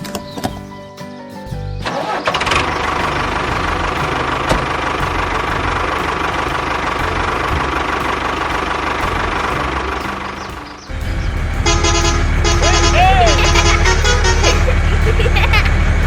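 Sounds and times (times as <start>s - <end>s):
engine idling: 1.7s - 16.0s
steady whine: 2.3s - 16.0s.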